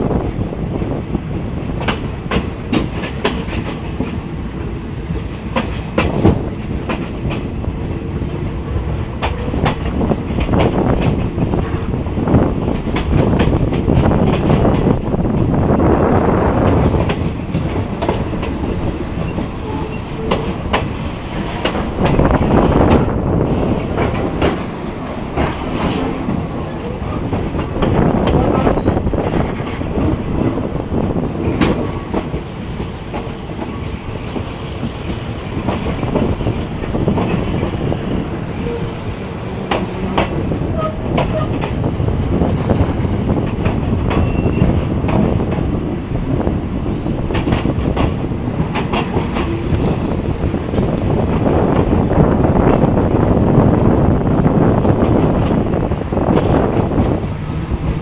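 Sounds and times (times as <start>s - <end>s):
train rumble: 0.0s - 58.0s
train wheels clacking: 0.8s - 15.5s, 16.3s - 53.6s.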